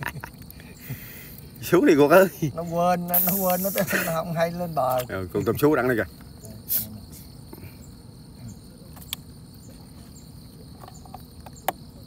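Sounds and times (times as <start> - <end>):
insect chirping faintly: 0.0 - 12.0.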